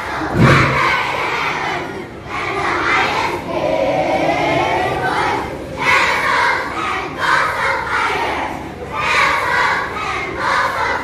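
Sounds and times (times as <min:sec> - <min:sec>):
children shouting and chanting: 0:00.0 - 0:11.0.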